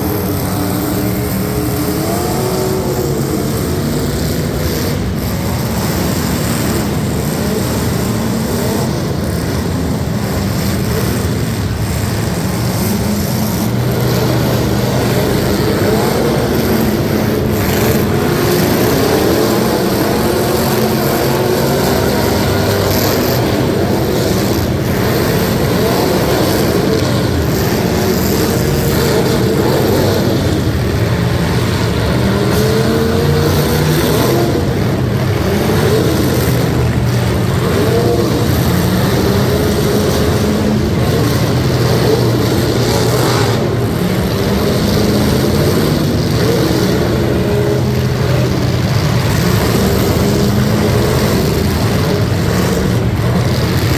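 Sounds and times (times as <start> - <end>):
truck engines revving: 0.0 - 53.9.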